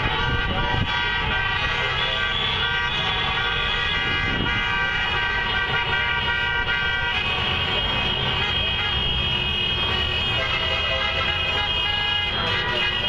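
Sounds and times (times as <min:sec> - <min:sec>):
many car horns honking: 0:00.0 - 0:13.0.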